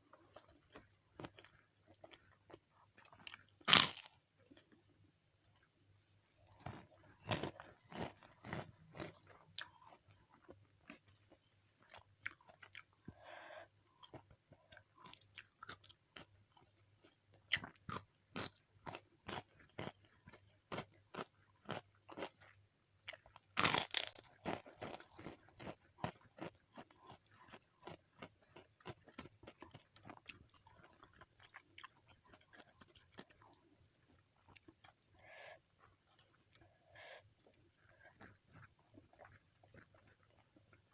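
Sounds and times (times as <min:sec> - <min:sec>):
person chewing crunchy food: 0:00.1 - 0:04.8, 0:06.4 - 0:40.9.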